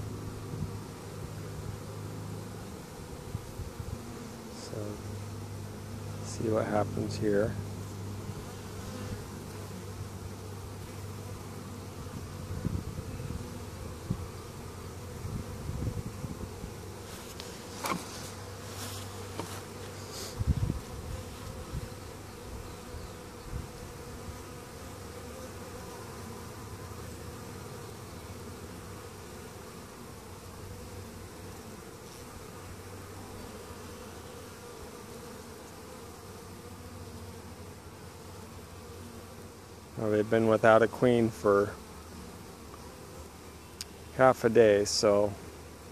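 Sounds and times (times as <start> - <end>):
honeybees buzzing: 0.0 - 45.9.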